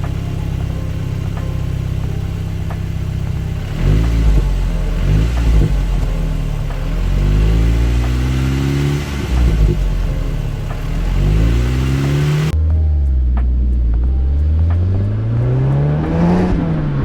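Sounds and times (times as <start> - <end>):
car engine accelerating: 0.0 - 17.0
road and wind noise: 0.0 - 17.0.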